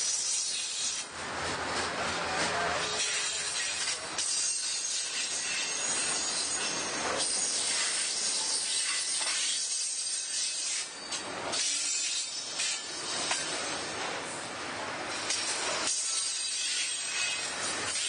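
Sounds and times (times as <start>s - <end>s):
freight train wheels hissing on rails: 0.0s - 18.0s.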